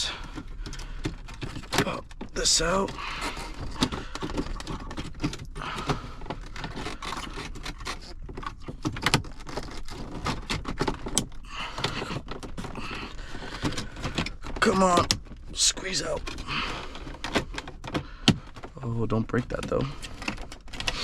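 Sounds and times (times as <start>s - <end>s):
plastic parts clicking and rattling: 0.0s - 21.0s.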